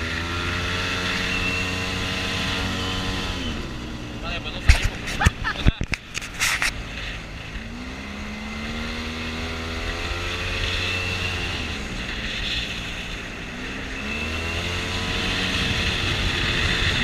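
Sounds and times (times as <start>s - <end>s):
offroad vehicle engine under load: 0.0s - 17.0s.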